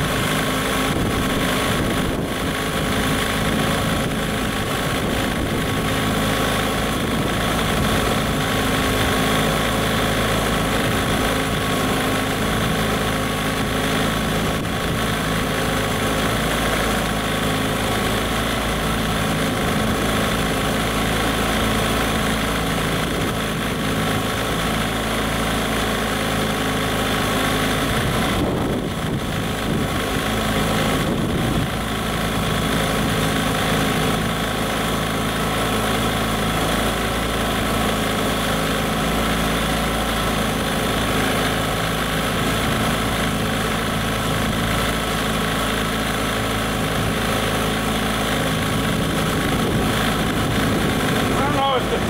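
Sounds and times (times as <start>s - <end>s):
outboard motor running: 0.0s - 52.0s
propeller churning water: 0.0s - 52.0s.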